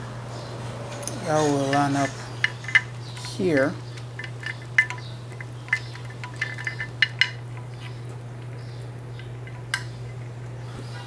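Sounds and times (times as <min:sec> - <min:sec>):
steady low hum: 0:00.0 - 0:11.0
metal parts and tools clinking: 0:00.3 - 0:10.4.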